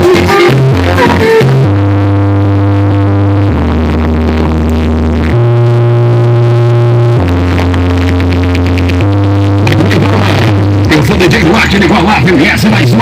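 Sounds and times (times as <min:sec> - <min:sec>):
electronic dance music in car: 0:00.0 - 0:13.0.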